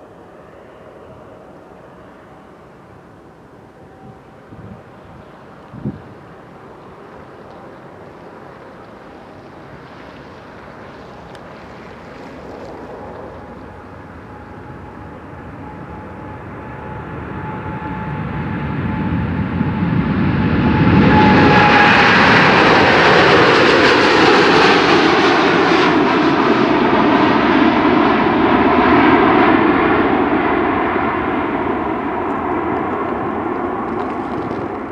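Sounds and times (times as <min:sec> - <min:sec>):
jet engines at takeoff: 0:00.0 - 0:34.9.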